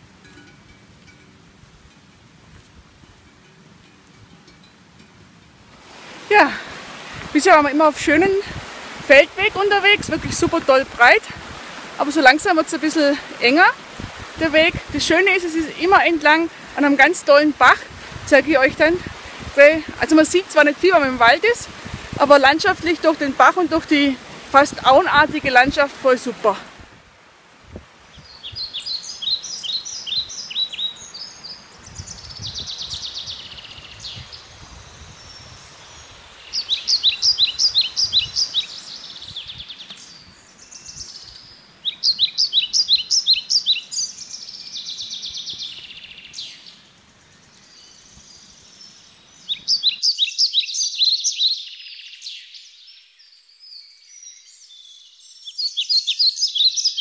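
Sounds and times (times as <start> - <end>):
songbird singing: 0.0 - 26.8, 27.8 - 57.0.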